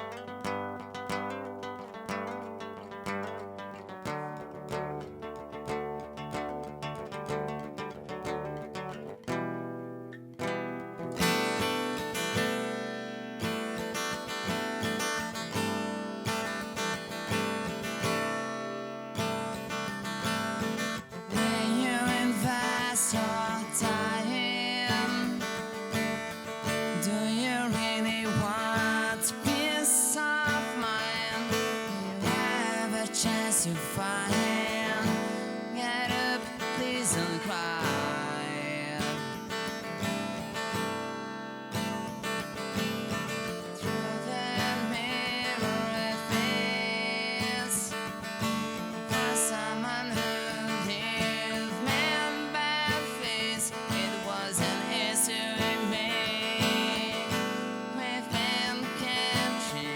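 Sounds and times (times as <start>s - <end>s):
acoustic guitar strumming: 0.0s - 59.9s.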